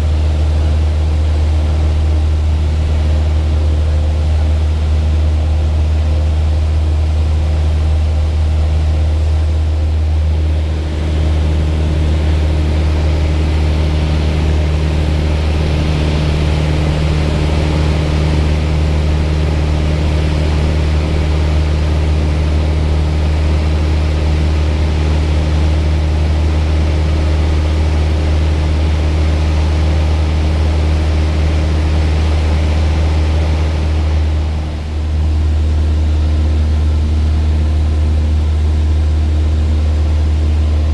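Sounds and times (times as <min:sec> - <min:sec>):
propeller airplane engine droning: 0:00.0 - 0:40.9.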